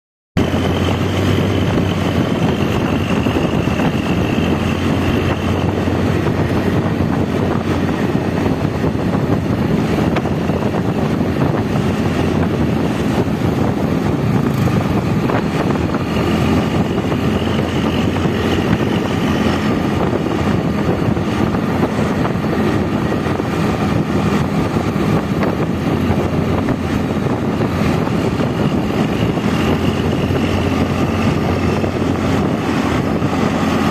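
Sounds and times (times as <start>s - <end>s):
bus diesel engine droning: 0.4s - 33.9s.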